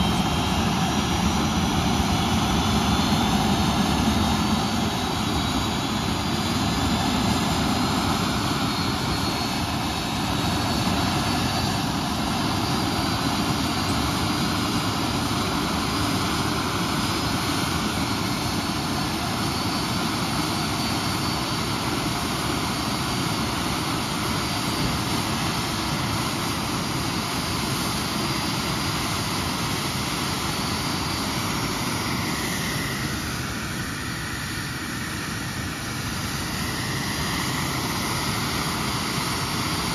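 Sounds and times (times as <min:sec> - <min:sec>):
jet engine whine and rush: 0:00.0 - 0:39.9.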